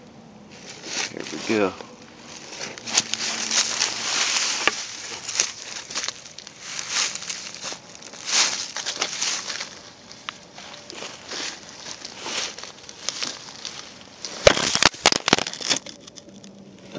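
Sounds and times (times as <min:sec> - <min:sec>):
dry leaves crunching underfoot: 0:00.5 - 0:16.4.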